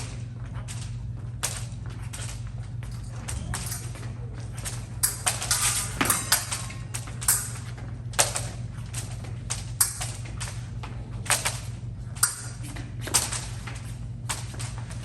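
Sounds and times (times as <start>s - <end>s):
fencing blades clacking: 0.0s - 15.0s
footsteps on fencing strip: 0.0s - 15.0s
low hum: 0.0s - 15.0s.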